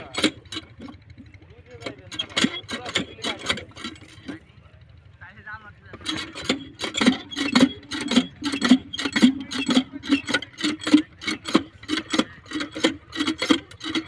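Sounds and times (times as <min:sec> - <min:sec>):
rhythmic rasping strokes: 0:00.0 - 0:04.6, 0:05.9 - 0:14.0.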